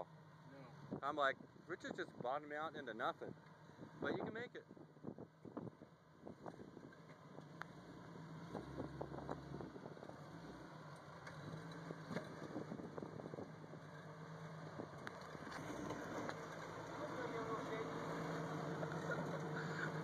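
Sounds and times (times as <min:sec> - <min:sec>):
car engine at low revs: 0:00.0 - 0:20.0.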